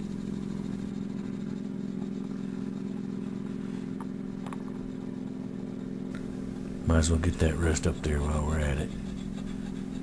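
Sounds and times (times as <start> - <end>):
orbital sander motor hum: 0.0 - 10.0.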